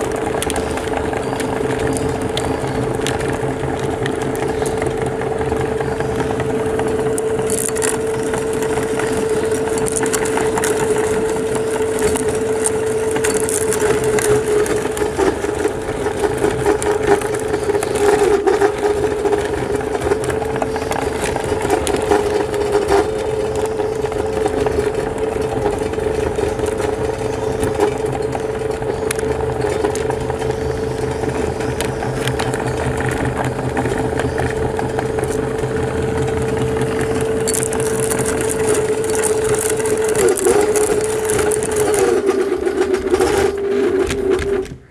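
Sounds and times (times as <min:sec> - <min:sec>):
electric grinder motor hum: 0:00.0 - 0:44.9
hard candies crunching: 0:00.0 - 0:44.9.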